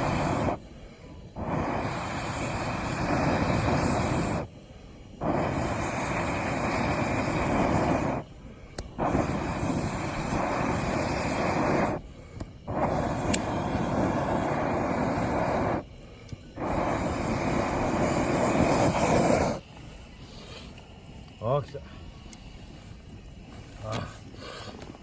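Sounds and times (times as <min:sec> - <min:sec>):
rushing air noise: 0:00.0 - 0:25.0.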